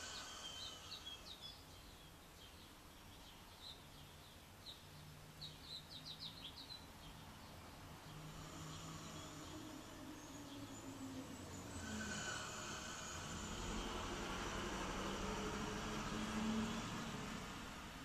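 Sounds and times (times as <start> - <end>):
birds chirping: 0.0 - 17.8
low steady hum: 0.0 - 18.0.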